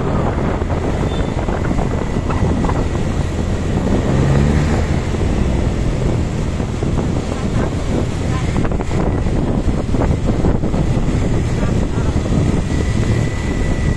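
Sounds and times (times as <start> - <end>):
motorcycle engine running: 0.0 - 13.9
wind buffeting microphone: 0.0 - 13.9.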